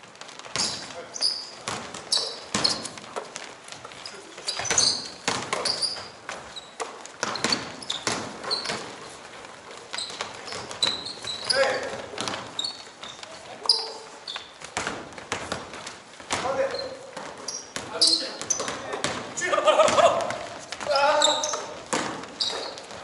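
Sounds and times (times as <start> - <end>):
basketballs bouncing: 0.0 - 23.0
sneaker squeaks on floor: 0.5 - 15.7, 16.4 - 19.4, 20.0 - 23.0.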